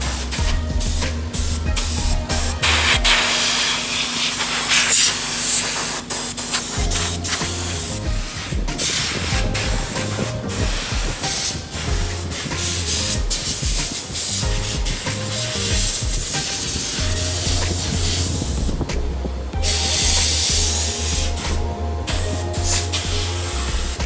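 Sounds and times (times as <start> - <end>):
air blow gun hissing bursts: 0.0 - 24.0.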